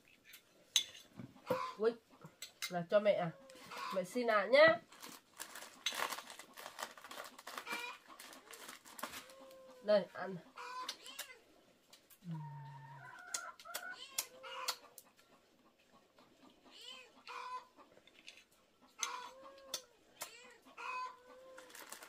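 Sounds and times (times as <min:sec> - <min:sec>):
chickens clucking: 0:01.1 - 0:02.4, 0:03.2 - 0:04.5, 0:05.5 - 0:11.4, 0:12.0 - 0:22.0.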